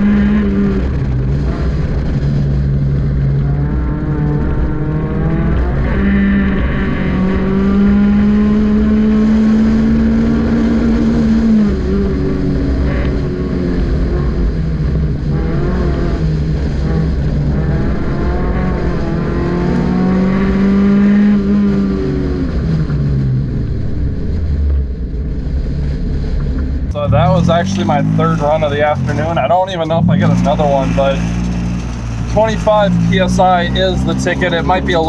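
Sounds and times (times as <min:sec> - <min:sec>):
car engine at high revs: 0:00.0 - 0:35.0.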